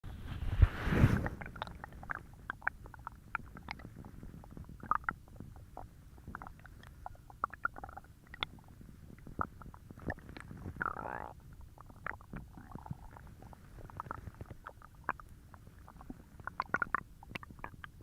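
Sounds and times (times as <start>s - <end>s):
stomach growling: 1.0s - 18.0s.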